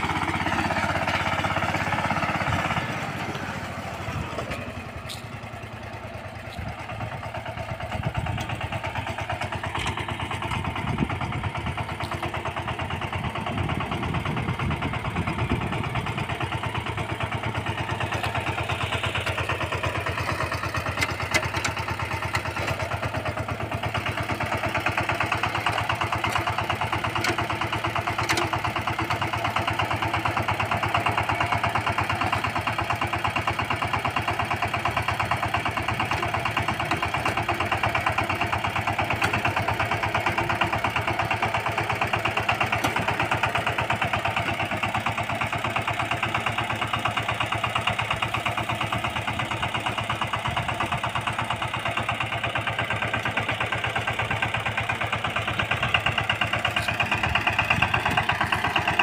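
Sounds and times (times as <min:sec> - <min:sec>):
diesel tiller engine running: 0:00.0 - 0:59.0.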